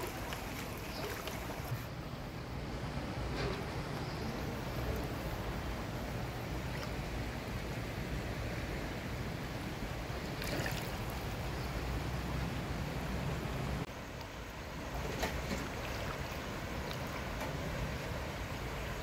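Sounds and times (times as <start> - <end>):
floodwater rushing down a street: 0.0 - 1.8, 4.6 - 19.0.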